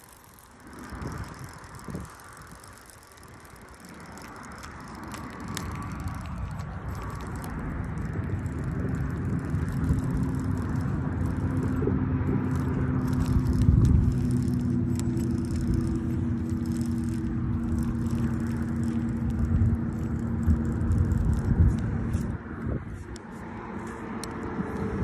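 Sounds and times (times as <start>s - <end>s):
handling clicks: 0.0s - 25.0s
steady low hum: 0.0s - 25.0s
wind buffeting microphone: 0.4s - 25.0s.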